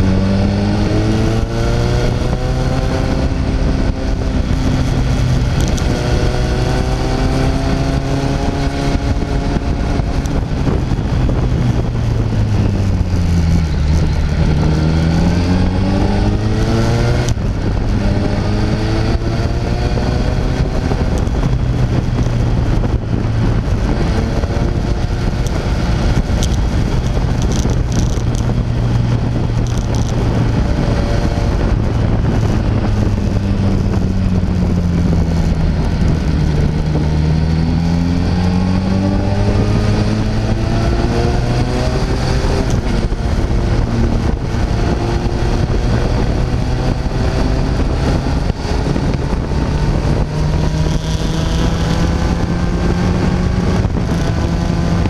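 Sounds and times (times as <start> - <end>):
motorcycle engine running: 0.0 - 55.0
wind rushing: 0.0 - 55.0.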